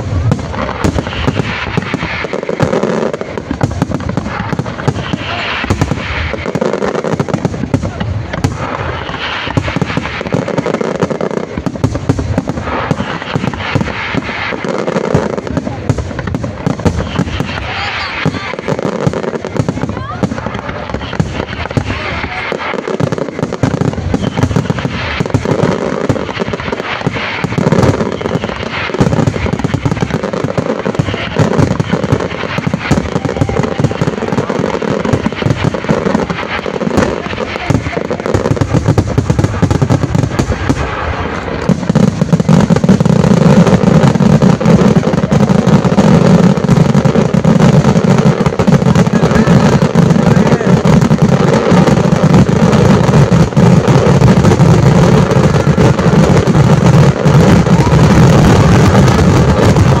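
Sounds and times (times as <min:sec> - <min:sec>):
fireworks bursts and bangs: 0:00.0 - 1:00.0.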